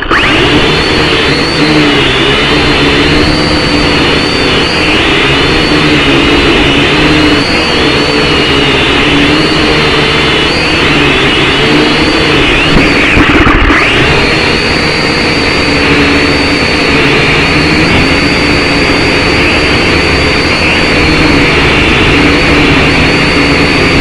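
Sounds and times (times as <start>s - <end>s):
quadcopter motors buzzing: 0.0s - 24.0s.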